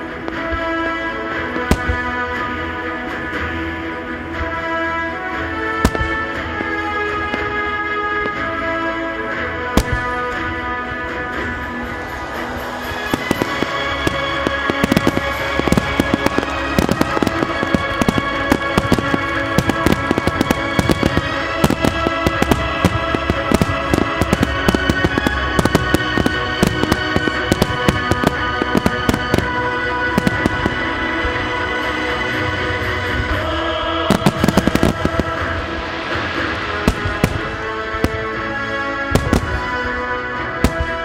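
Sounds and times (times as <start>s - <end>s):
firework bangs: 0.0s - 41.0s
music playing: 0.0s - 41.0s.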